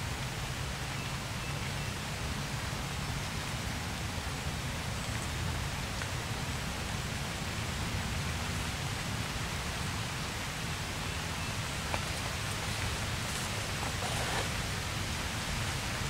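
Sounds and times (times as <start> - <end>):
rain falling on lake water: 0.0 - 16.0.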